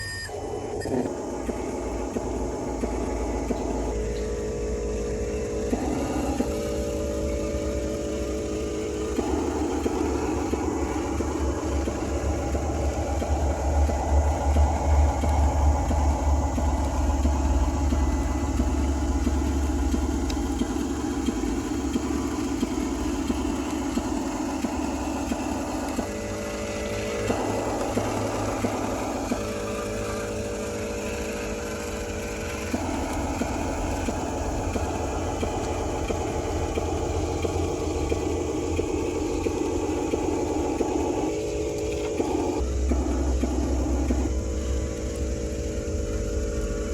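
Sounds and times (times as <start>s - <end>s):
electric motors whirring: 0.0s - 46.9s
heavy low rumble: 0.5s - 46.9s.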